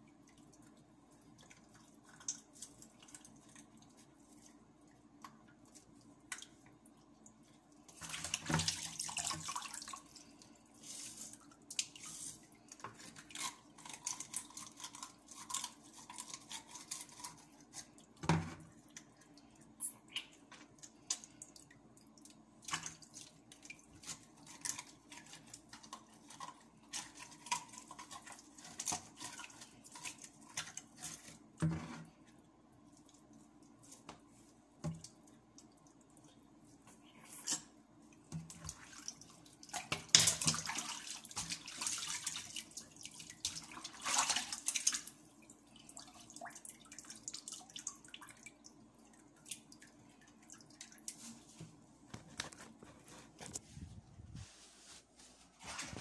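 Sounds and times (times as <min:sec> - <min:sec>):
water dripping and splashing: 0:00.0 - 0:10.6, 0:11.2 - 0:31.5, 0:32.4 - 0:51.7.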